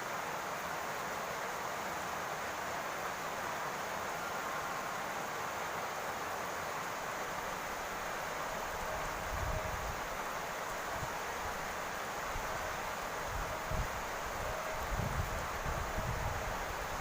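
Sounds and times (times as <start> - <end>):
rain on a roof: 0.0 - 17.0.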